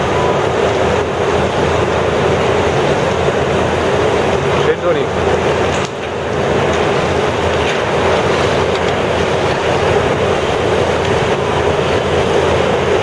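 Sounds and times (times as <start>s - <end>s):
low machine hum: 0.0s - 13.0s
wind fans rushing: 0.0s - 13.0s.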